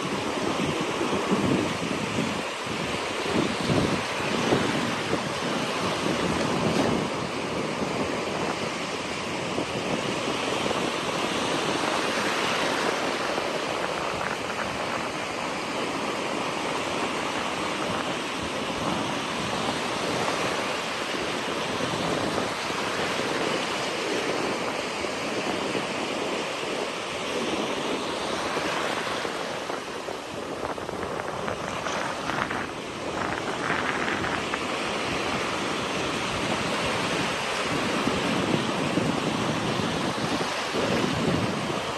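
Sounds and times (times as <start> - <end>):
waves breaking on shore: 0.0 - 41.9
wind on microphone: 0.0 - 41.9.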